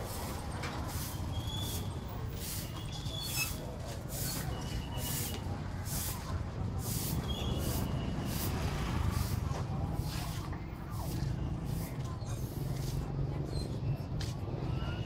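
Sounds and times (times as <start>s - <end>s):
crowd and traffic rumble: 0.0s - 15.0s
faint chatter: 0.0s - 15.0s.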